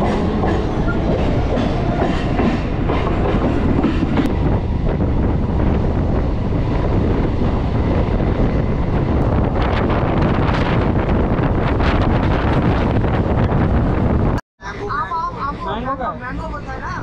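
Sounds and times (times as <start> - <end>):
clickety-clack of rails: 0.0 - 14.4
train wheels on rails: 0.0 - 14.4.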